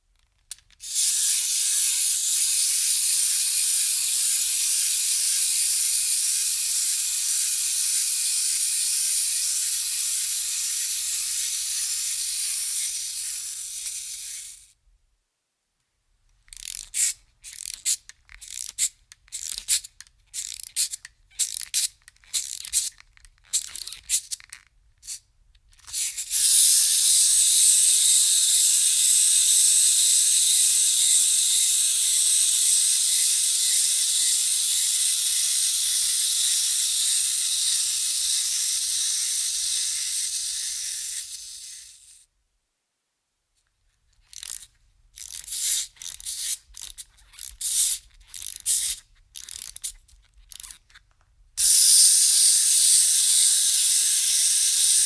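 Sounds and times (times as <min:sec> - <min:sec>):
toy winding clicks: 0:00.2 - 0:14.8, 0:16.3 - 0:42.2, 0:44.0 - 0:55.0
clockwork toy whirring: 0:00.5 - 0:14.7, 0:16.5 - 0:42.2, 0:44.2 - 0:51.0, 0:51.6 - 0:55.0.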